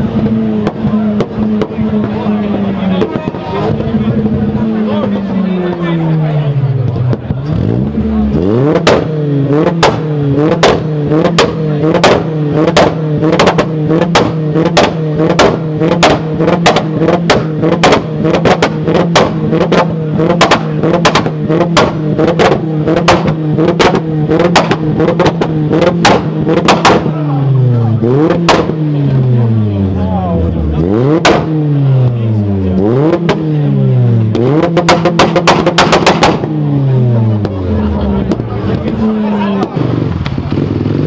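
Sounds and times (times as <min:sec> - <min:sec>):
car engine revving with cracks: 0:00.0 - 0:41.0.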